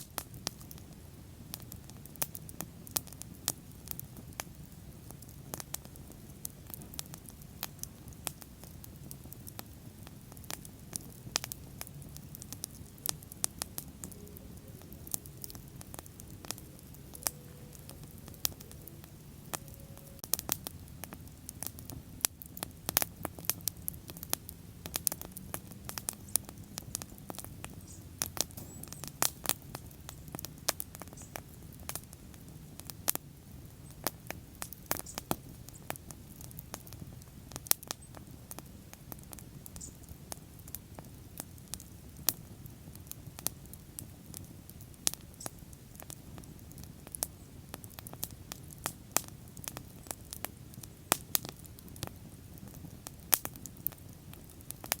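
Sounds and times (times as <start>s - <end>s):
low rush of flame: 0.0s - 45.2s
bonfire crackling and popping: 0.0s - 55.0s.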